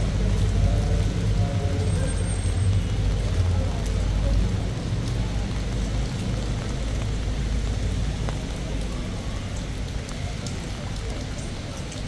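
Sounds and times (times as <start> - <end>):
rain on stone paving: 0.0 - 12.0.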